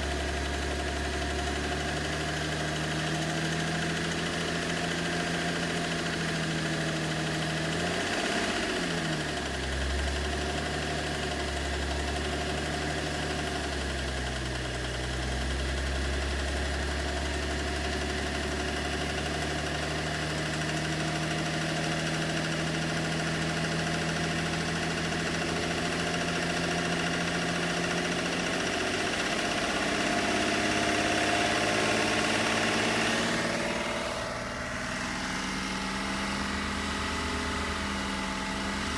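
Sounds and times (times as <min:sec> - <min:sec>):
diesel engine idling: 0:00.0 - 0:18.4, 0:20.6 - 0:38.9
engine knock: 0:00.0 - 0:38.9.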